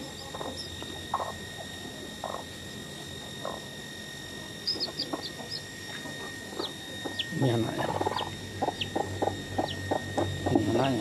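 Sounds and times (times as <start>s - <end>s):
chick peeping: 0.0s - 2.6s, 3.2s - 3.7s, 4.6s - 10.8s.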